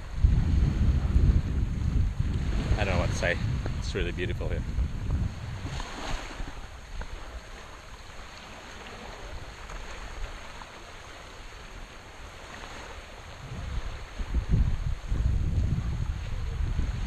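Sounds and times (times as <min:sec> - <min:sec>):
light wind: 0:00.0 - 0:17.0
sea water lapping on shore: 0:00.0 - 0:17.0.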